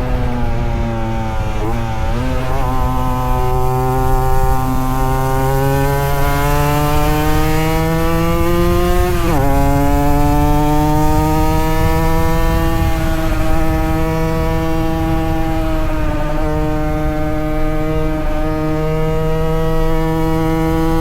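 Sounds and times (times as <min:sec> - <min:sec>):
two-stroke motorcycle accelerating: 0:00.0 - 0:21.0.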